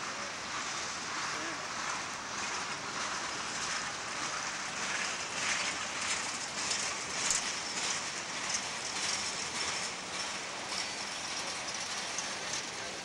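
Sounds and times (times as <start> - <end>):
freight cars rolling on rails: 0.0 - 13.0.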